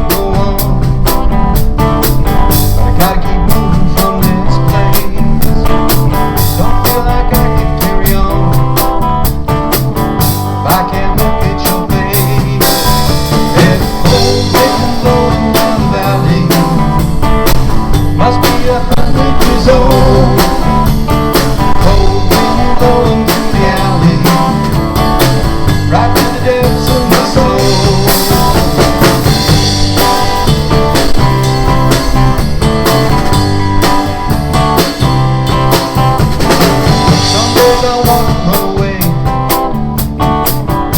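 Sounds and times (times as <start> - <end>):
blues-rock guitar: 0.0 - 40.9
drum kit beat: 0.0 - 40.9.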